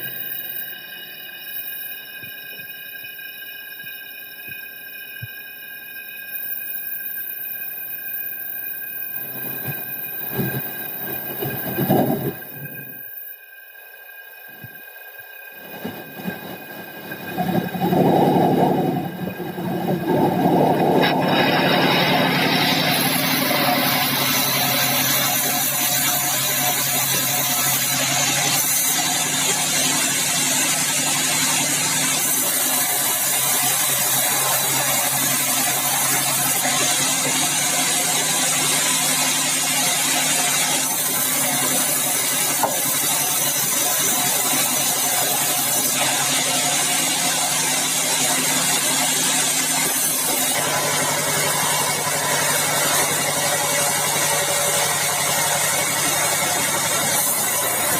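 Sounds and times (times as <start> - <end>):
bandsaw running: 0.0 - 3.5, 6.0 - 13.2, 15.6 - 57.9.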